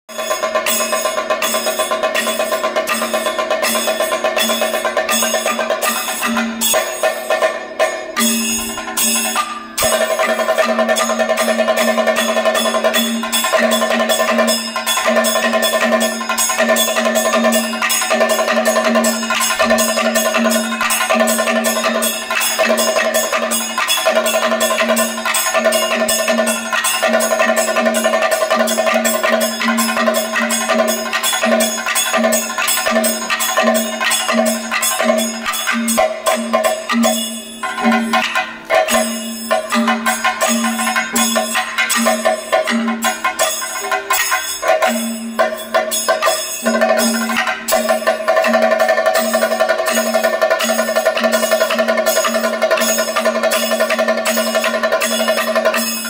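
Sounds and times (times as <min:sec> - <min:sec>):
fast dense percussion: 0:00.1 - 0:56.0
ringing metallic tones: 0:00.1 - 0:56.0.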